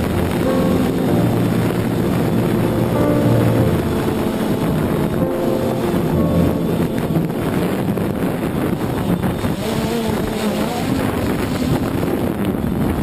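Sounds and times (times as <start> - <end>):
drone motors humming: 0.0 - 12.4
wind on microphone: 0.0 - 13.0.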